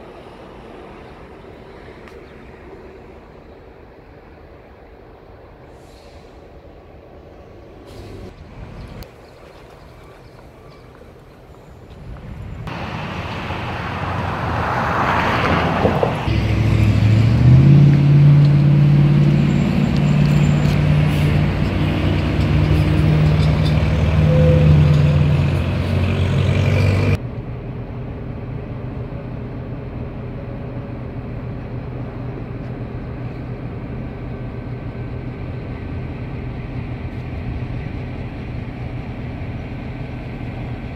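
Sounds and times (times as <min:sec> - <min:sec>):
diesel locomotive engine starting: 0:00.0 - 0:09.1, 0:11.7 - 0:40.9.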